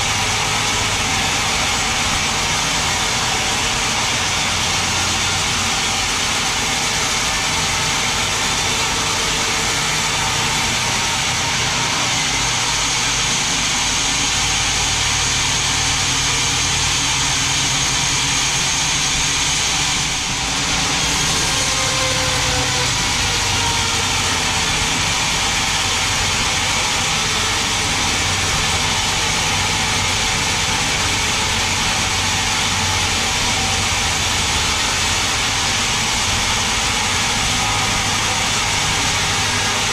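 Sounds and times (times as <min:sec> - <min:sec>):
band saw cutting log: 0:00.0 - 0:39.9
machine hum: 0:00.0 - 0:39.9.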